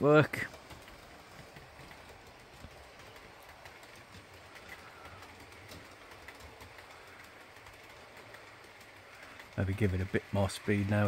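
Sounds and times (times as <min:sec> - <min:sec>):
model train running: 0:00.0 - 0:11.0
small clicks: 0:00.3 - 0:11.0.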